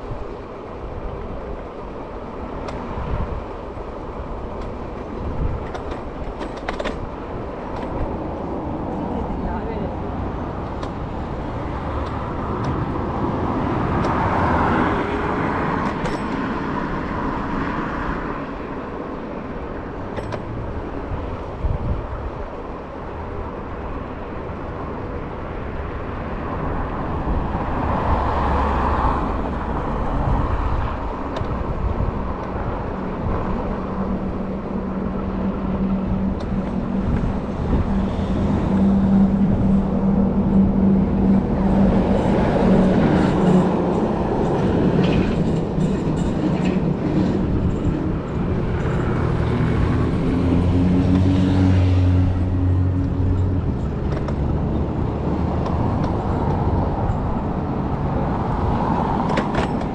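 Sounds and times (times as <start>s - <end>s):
road traffic: 0.0s - 59.9s
wind rush: 0.0s - 59.9s.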